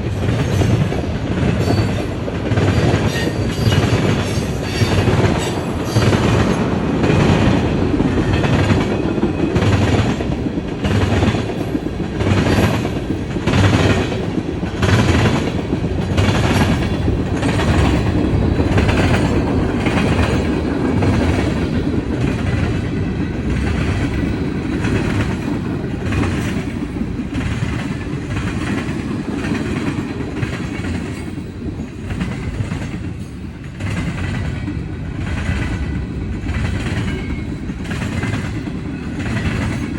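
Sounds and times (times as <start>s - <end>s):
train rumbling past: 0.0s - 39.9s
train wheels clickety-clack: 0.0s - 39.9s.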